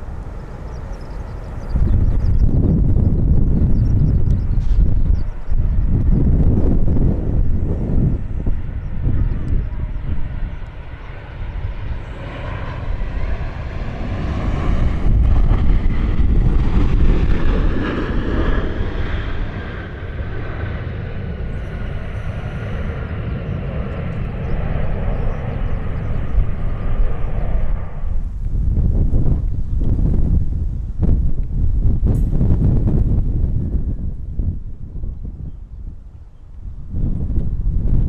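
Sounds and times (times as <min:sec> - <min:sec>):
airliner engine whine: 0:00.0 - 0:38.0
wind rumble on microphone: 0:00.0 - 0:38.0.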